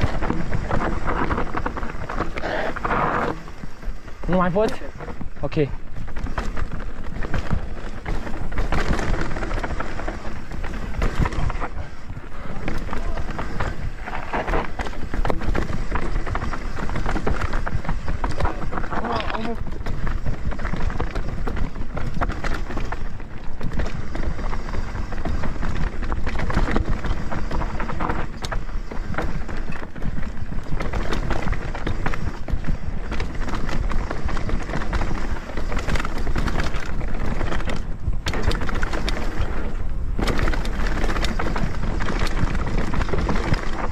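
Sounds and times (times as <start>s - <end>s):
bike knocks and rattles: 0.0s - 43.9s
bike tyres rumbling on dirt: 0.0s - 43.9s.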